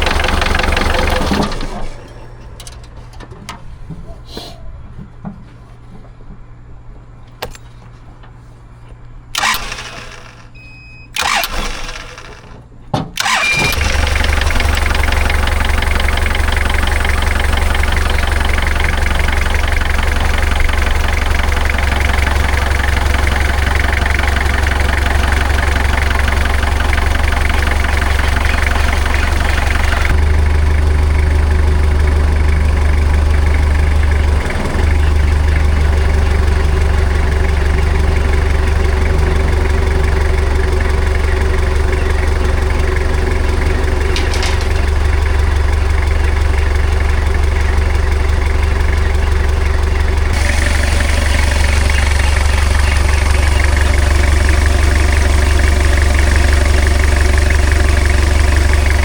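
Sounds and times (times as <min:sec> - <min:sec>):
forklift engine starting and running: 0:00.0 - 0:05.0, 0:06.6 - 0:59.0.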